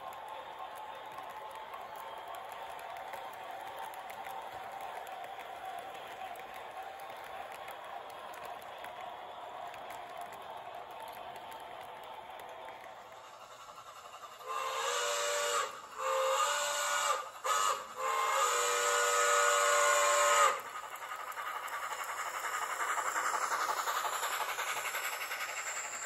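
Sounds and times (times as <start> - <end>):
model train rumbling past: 0.0 - 26.0
model train steam whistle: 0.0 - 26.0
wheels clicking on track: 0.0 - 26.0.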